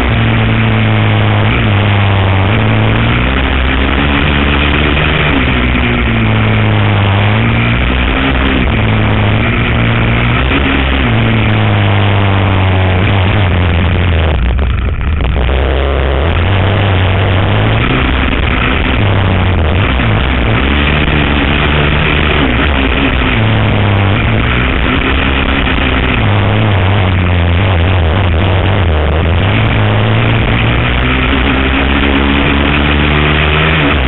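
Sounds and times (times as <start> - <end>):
atv engine revving: 0.0 - 34.0
wind on microphone: 4.5 - 32.4.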